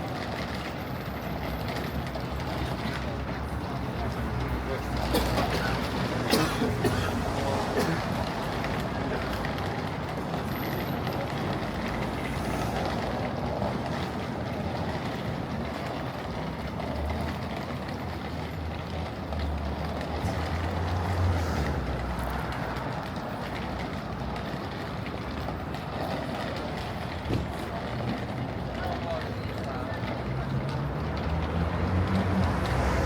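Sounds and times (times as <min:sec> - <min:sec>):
heavy vehicle engine rumble: 0:00.0 - 0:33.0
street traffic noise: 0:00.0 - 0:33.0.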